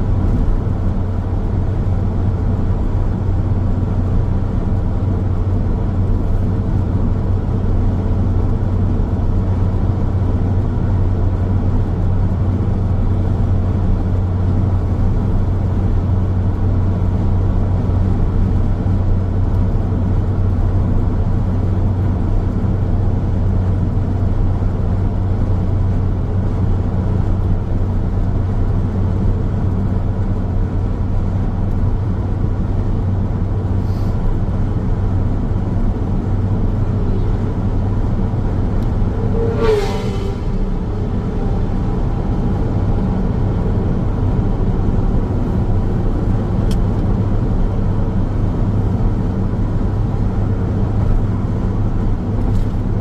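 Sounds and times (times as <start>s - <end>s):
car road noise rumble: 0.0s - 53.0s.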